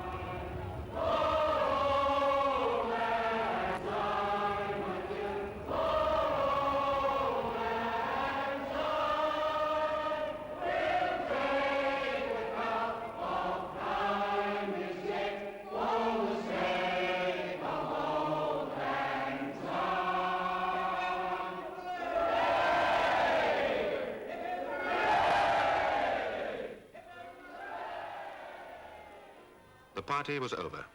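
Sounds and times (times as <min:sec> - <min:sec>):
large crowd singing: 0:00.0 - 0:26.8.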